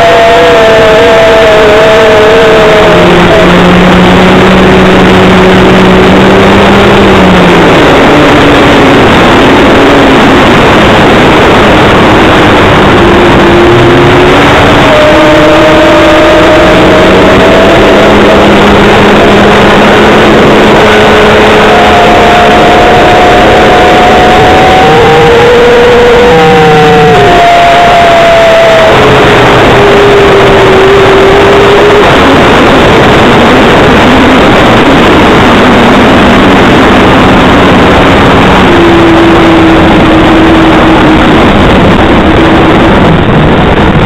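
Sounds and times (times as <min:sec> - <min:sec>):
wind rushing over camera: 0:00.0 - 0:44.0.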